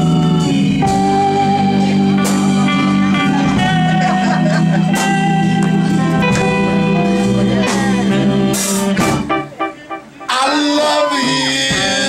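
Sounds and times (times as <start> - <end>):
keyboard chords: 0.0 - 12.0
live band playing: 0.0 - 12.0
saxophone: 0.0 - 12.0.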